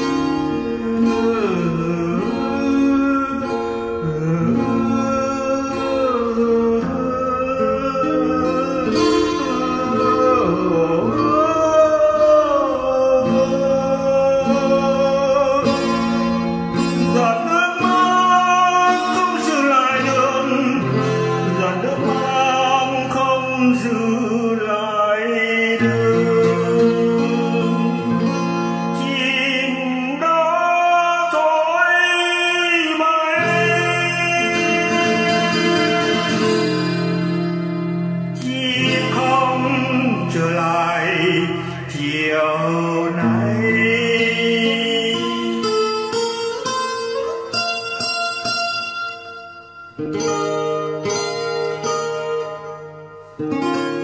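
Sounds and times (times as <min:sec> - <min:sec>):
acoustic guitar: 0:00.0 - 0:54.0
person singing: 0:00.0 - 0:54.0.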